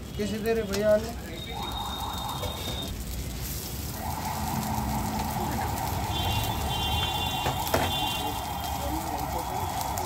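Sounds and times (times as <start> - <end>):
gas burner roaring: 0.0 - 10.0.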